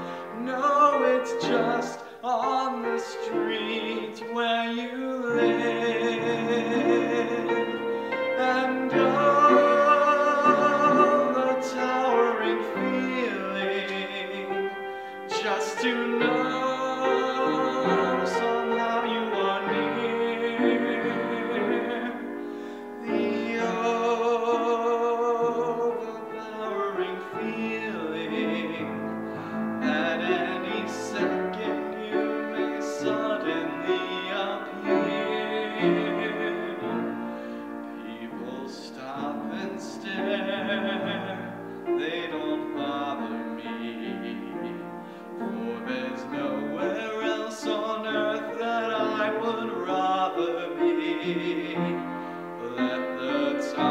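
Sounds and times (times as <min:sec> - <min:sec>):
man singing with vibrato: 0:00.0 - 0:53.9
upright piano: 0:00.0 - 0:53.9.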